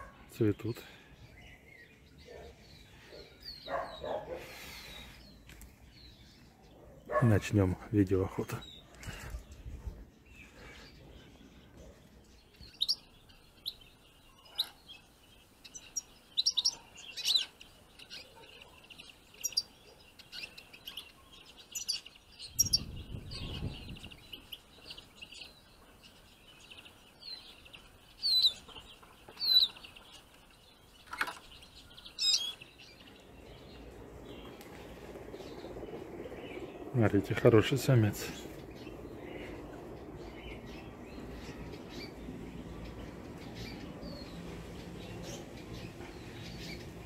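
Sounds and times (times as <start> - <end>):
finches chirping: 0.0 - 47.0.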